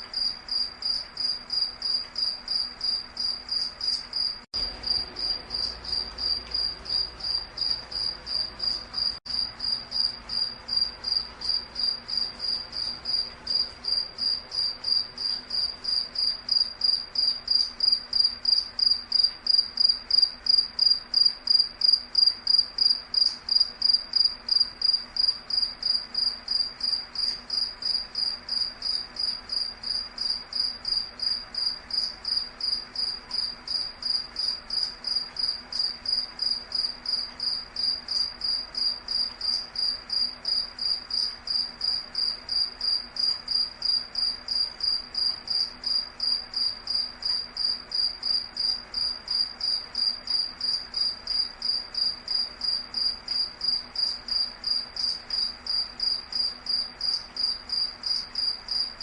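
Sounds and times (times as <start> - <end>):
faint steady hiss: 0.0 - 59.0
insect chirping: 0.1 - 59.0.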